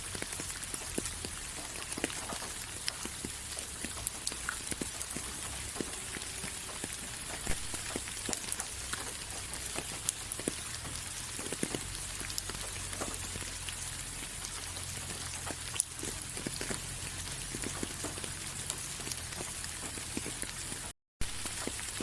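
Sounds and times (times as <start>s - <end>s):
rain falling: 0.0s - 22.0s
raindrops tapping close by: 0.0s - 22.0s.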